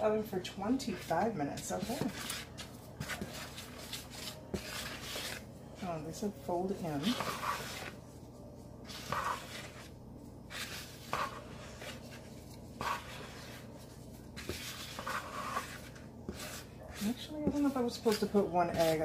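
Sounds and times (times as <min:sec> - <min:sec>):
wooden spoon stirring batter: 0:00.0 - 0:19.0.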